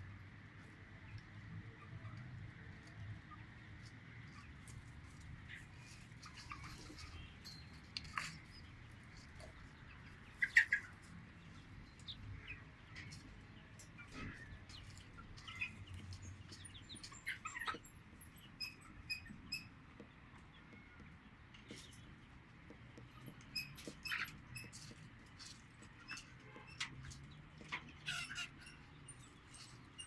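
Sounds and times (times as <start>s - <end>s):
young chickens clucking and peeping: 1.1s - 7.2s, 8.0s - 26.4s.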